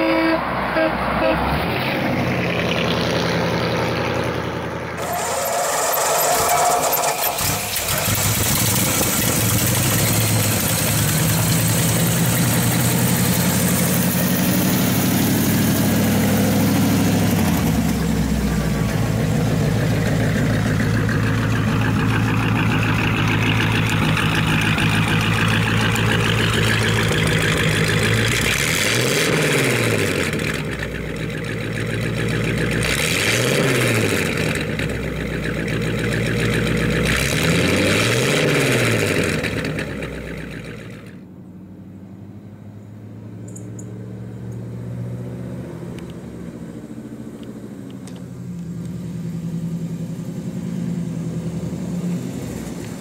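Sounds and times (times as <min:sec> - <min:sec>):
engine running and revving: 0:00.6 - 0:53.0.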